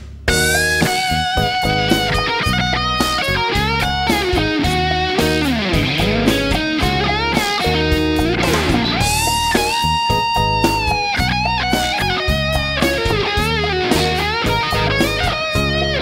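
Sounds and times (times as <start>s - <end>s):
bass: 0.0s - 16.0s
steady drum beat: 0.0s - 16.0s
electric guitar lead: 0.3s - 16.0s.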